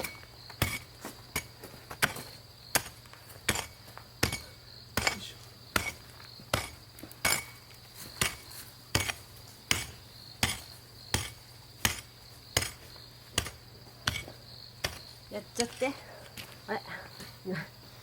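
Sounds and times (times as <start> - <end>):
digging tool striking stony ground: 0.0 - 15.9.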